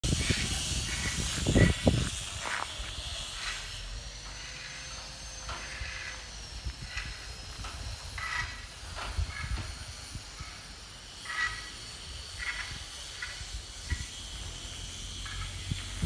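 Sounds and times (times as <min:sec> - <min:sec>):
wind rumble on microphone: 0:00.0 - 0:03.7, 0:05.5 - 0:14.4, 0:15.1 - 0:16.0.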